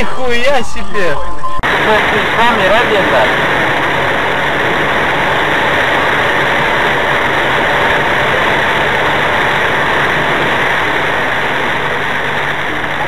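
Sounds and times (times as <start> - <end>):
car interior road noise: 0.0 - 13.0
low steady hum: 0.0 - 13.0.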